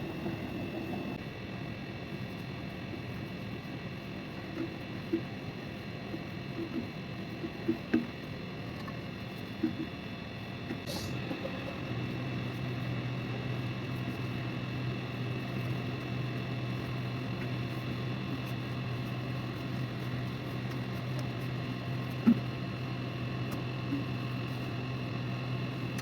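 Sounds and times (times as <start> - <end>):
machine humming: 0.0 - 1.5, 4.5 - 26.0.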